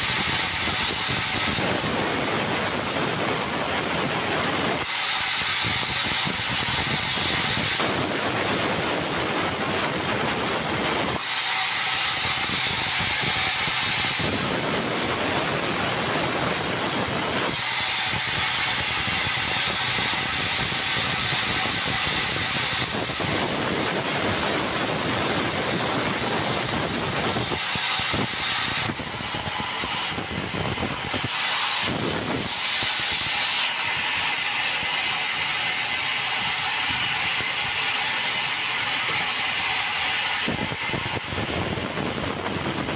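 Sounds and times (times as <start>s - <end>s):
band saw cutting timber: 0.0s - 42.9s.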